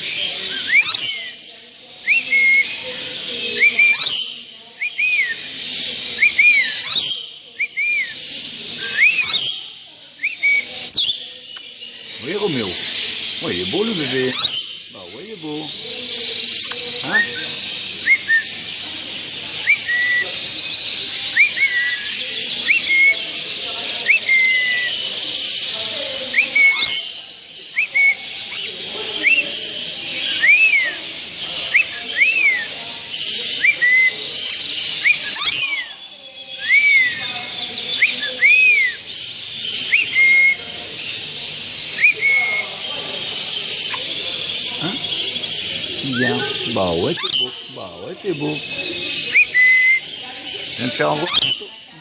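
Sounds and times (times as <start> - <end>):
small birds chirping and twittering: 0.0 - 52.0.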